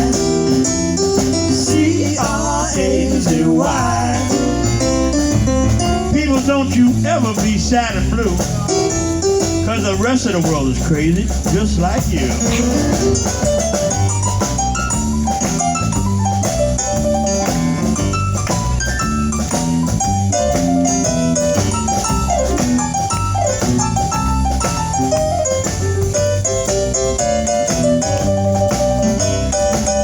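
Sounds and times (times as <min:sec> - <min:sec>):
bass guitar: 0:00.0 - 0:30.0
drum kit: 0:00.0 - 0:30.0
lead instrument melody: 0:00.0 - 0:30.0.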